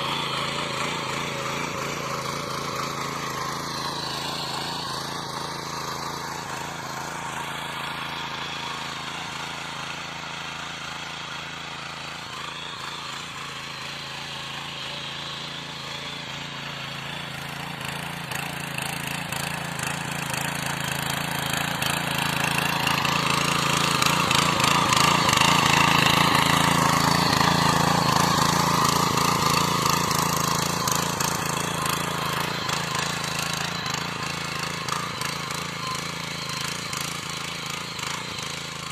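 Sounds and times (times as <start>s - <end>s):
power weeder engine running: 0.0s - 38.9s.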